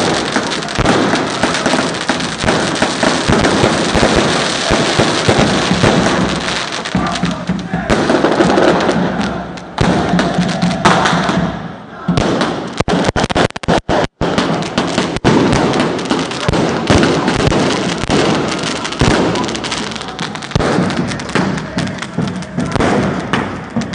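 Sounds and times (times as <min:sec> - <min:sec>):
crowd shouting: 0:00.0 - 0:13.1, 0:14.4 - 0:23.9
firecrackers bangs and pops: 0:00.0 - 0:23.9.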